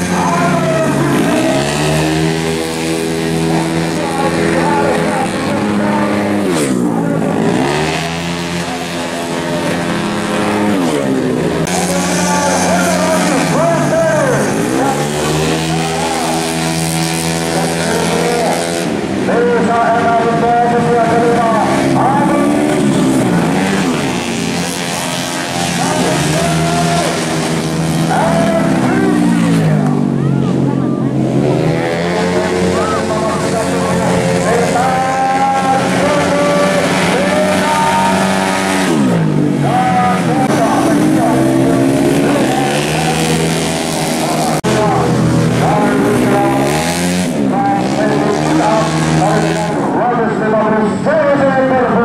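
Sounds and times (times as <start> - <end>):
scooter engines whining past: 0.0 - 52.0.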